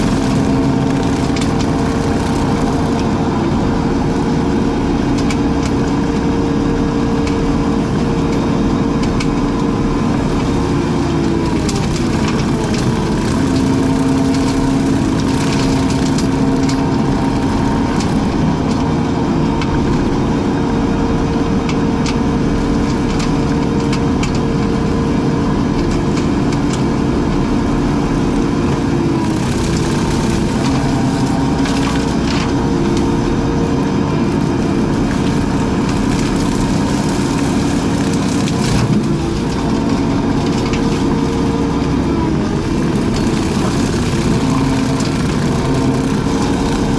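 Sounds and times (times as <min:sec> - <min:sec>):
wood cracking and splintering: 0:00.0 - 0:20.5, 0:21.6 - 0:46.9
brush cutter engine running: 0:00.0 - 0:46.9.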